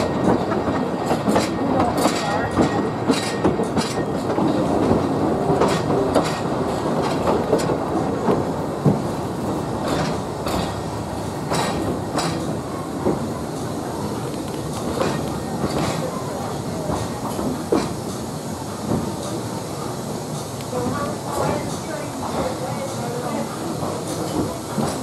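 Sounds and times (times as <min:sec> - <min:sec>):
train rumbling along track: 0:00.0 - 0:25.0.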